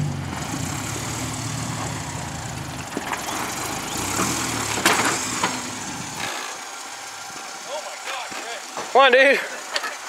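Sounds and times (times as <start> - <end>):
truck engine at low revs: 0.0 - 10.0.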